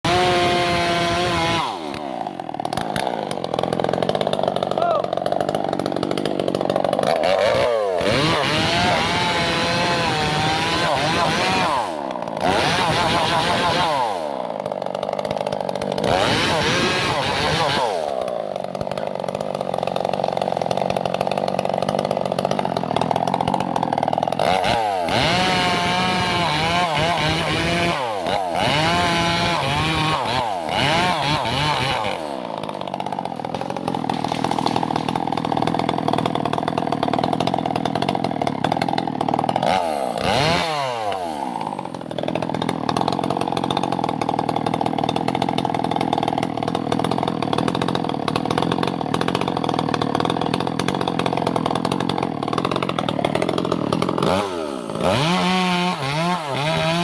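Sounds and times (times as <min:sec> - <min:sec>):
two-stroke chainsaw cutting tree: 0:00.0 - 0:57.0.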